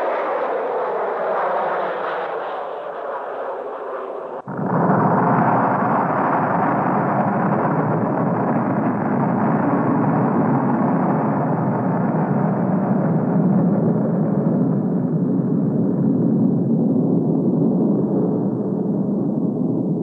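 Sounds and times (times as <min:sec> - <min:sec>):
steady noise: 0:00.0 - 0:16.6
deep explosion rumble: 0:02.7 - 0:20.0.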